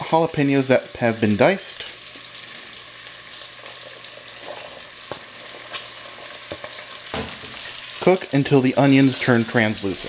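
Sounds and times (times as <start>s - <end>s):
bacon sizzling in fat: 0.0s - 10.0s.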